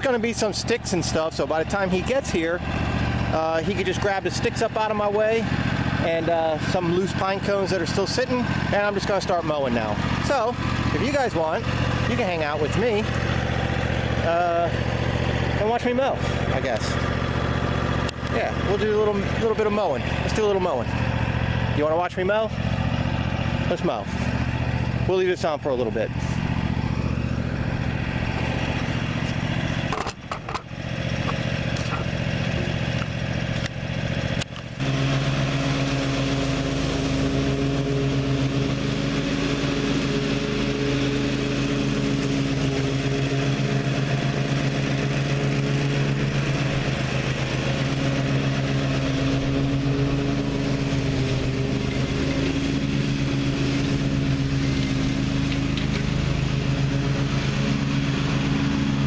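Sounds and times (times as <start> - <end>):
lawn mower running: 0.0 - 59.0.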